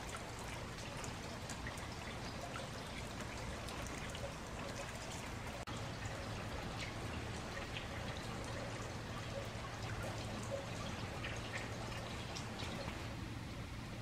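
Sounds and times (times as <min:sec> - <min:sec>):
rain pattering on pavement: 0:00.0 - 0:13.0
water trickling from downspout: 0:00.0 - 0:14.0.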